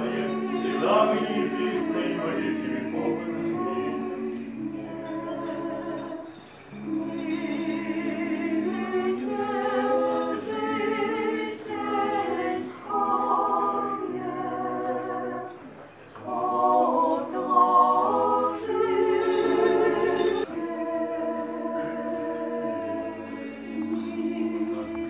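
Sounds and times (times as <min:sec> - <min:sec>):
choir chanting a cappella: 0:00.0 - 0:25.0.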